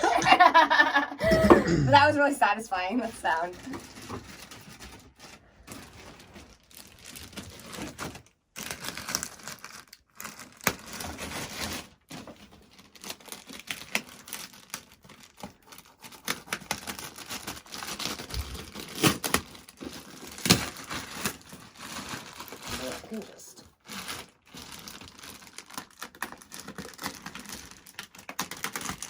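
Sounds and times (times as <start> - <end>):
packaging crinkling and tearing: 3.6 - 29.0.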